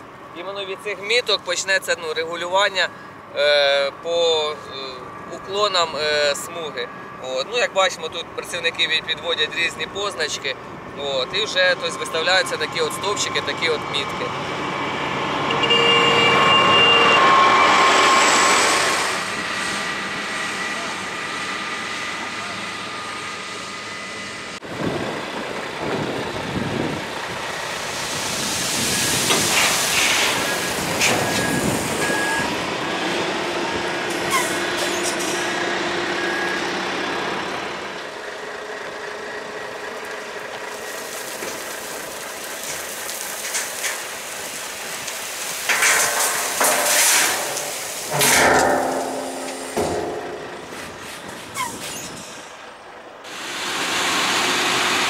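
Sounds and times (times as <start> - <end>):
diesel dump truck engine: 0.0 - 55.0.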